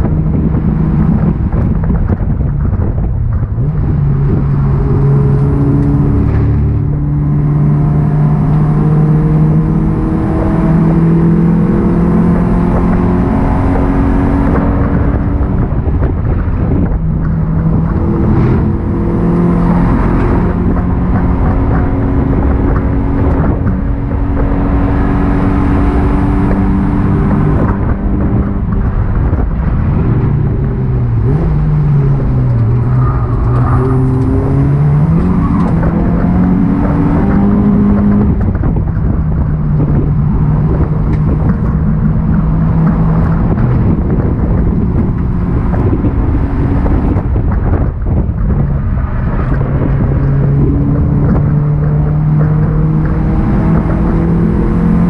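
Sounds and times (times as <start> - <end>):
race car engine: 0.0 - 55.0
road and wind noise: 0.0 - 55.0.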